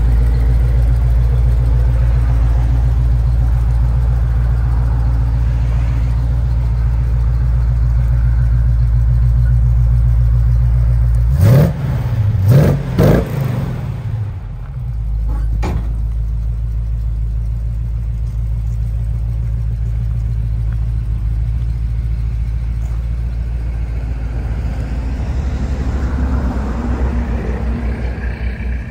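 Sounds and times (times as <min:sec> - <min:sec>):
pickup engine idling and revving: 0:00.0 - 0:28.9.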